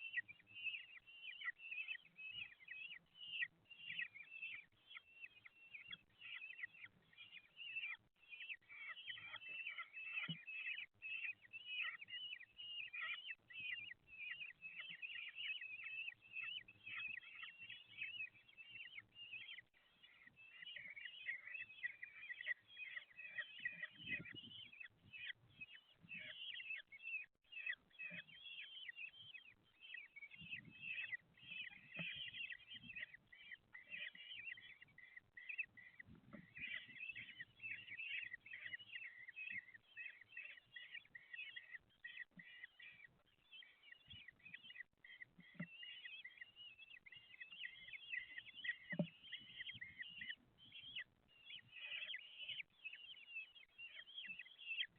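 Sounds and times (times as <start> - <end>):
kestrel chicks chirping: 0.0 - 54.9.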